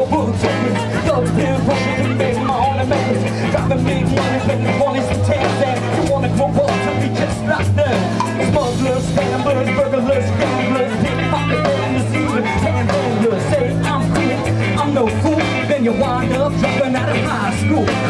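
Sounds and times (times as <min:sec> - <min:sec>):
live band music: 0:00.0 - 0:18.0
person singing: 0:00.0 - 0:18.0.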